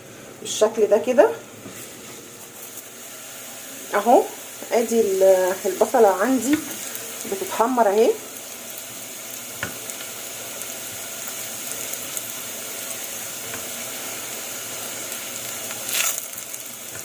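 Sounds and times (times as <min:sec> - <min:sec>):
onion sizzling in oil: 0:00.0 - 0:17.0.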